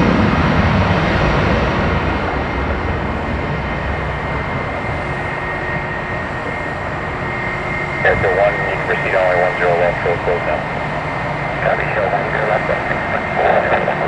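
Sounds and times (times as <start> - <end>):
jet engines roaring with whine: 0.0 - 14.0.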